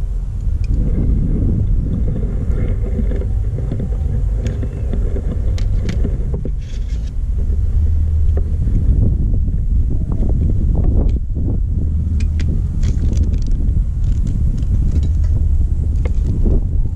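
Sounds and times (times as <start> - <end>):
low rumble: 0.0 - 16.9.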